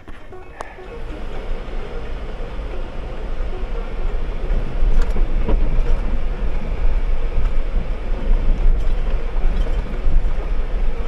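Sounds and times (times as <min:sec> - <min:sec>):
light rattles in cabin: 0:00.0 - 0:11.0
vehicle engine and road noise: 0:00.0 - 0:11.0.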